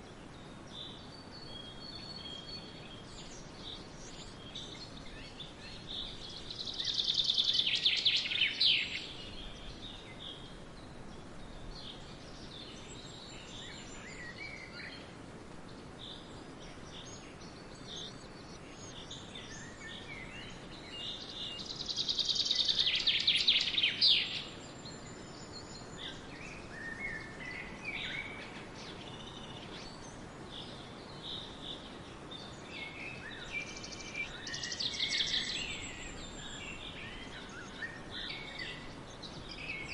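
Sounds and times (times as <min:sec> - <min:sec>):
background hiss: 0:00.0 - 0:39.9
birds chirping: 0:00.0 - 0:39.9.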